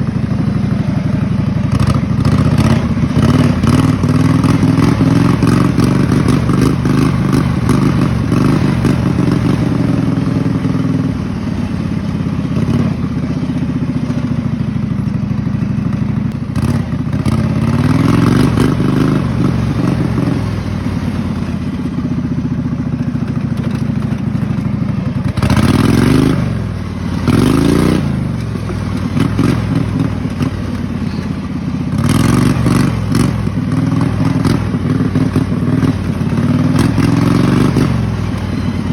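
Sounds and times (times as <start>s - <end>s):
lawn mower engine revving: 0.0s - 38.9s.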